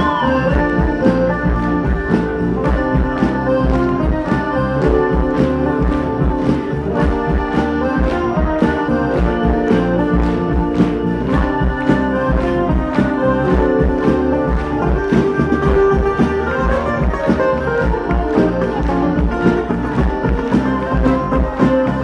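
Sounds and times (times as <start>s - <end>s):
accordion tones: 0.0s - 22.0s
acoustic band playing: 0.0s - 22.0s.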